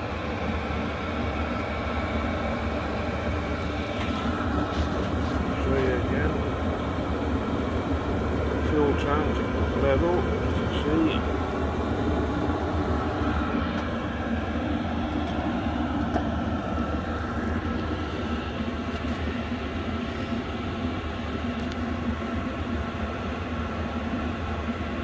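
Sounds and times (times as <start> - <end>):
air heater blower humming: 0.0 - 25.0.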